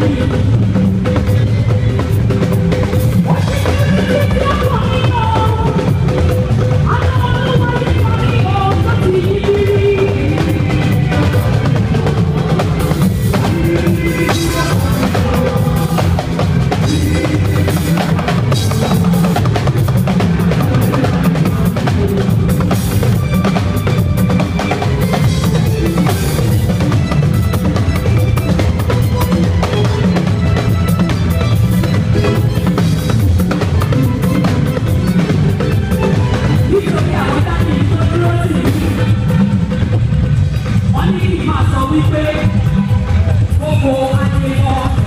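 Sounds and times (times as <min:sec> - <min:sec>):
drum-driven music: 0:00.0 - 0:45.0.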